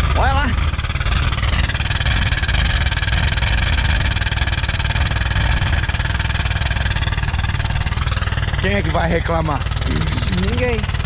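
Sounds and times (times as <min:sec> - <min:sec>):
industrial machinery noise: 0:00.0 - 0:11.0.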